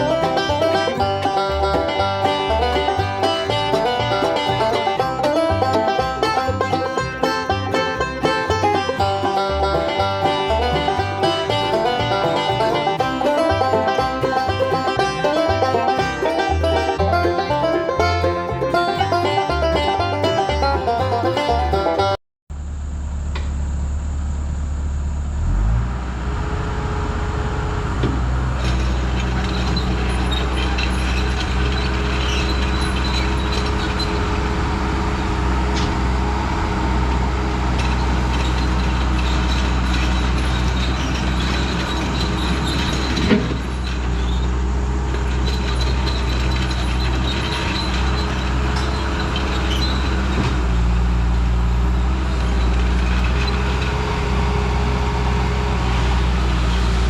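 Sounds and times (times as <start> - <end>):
skid steer engine running: 0.0 - 57.0.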